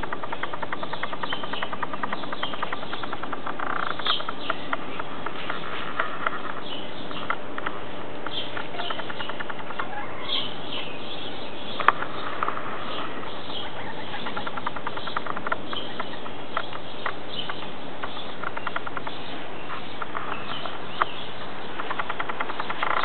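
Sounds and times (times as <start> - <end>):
hens chirping: 0.0 - 23.0
hens scratching and pecking: 0.0 - 23.0.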